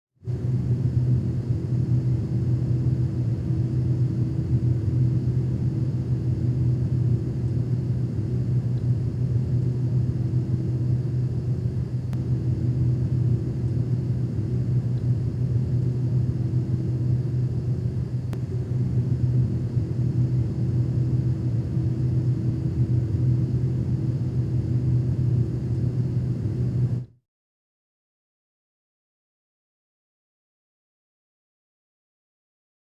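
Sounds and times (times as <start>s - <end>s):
low rumbling drone: 0.3s - 27.1s.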